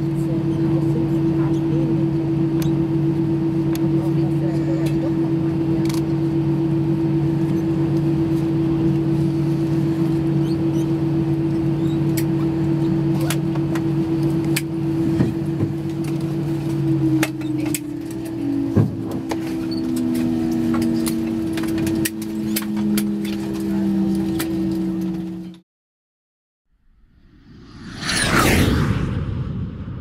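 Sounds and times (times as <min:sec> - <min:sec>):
aircraft engine and cabin hum: 0:00.0 - 0:25.6, 0:27.2 - 0:30.0.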